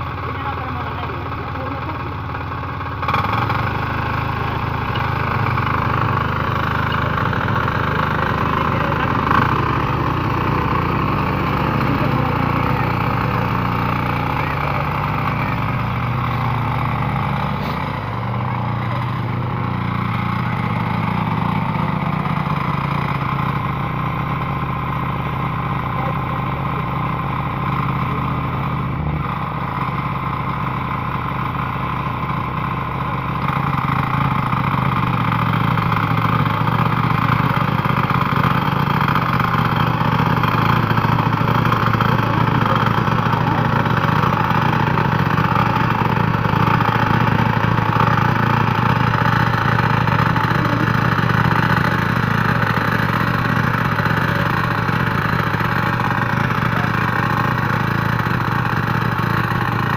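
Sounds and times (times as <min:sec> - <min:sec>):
power tiller engine running: 0:00.0 - 0:59.9.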